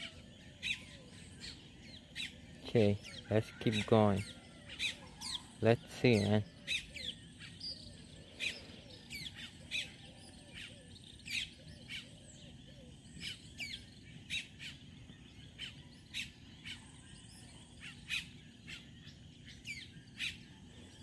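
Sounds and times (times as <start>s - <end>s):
birds chirping: 0.0s - 21.0s
faint background noise: 0.0s - 21.0s.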